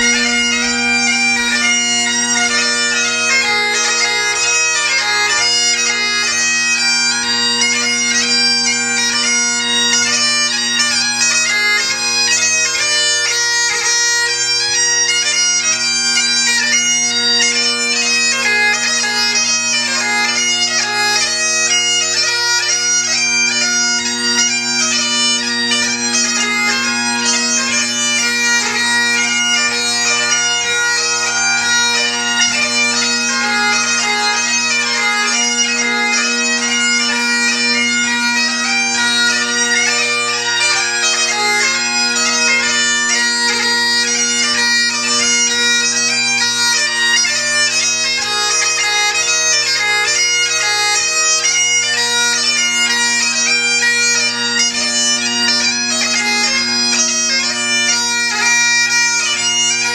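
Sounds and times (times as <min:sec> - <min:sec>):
bagpipe playing: 0:00.0 - 0:59.9.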